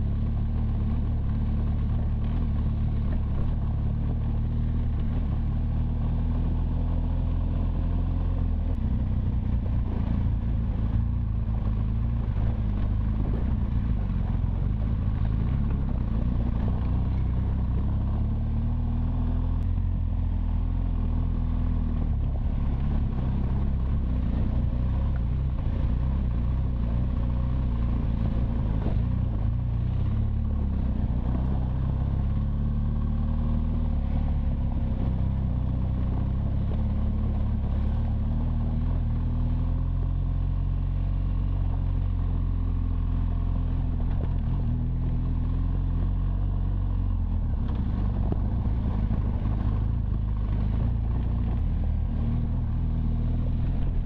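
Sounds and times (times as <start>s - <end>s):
motorcycle engine running: 0.0s - 54.0s
tyres on gravel road: 0.0s - 54.0s.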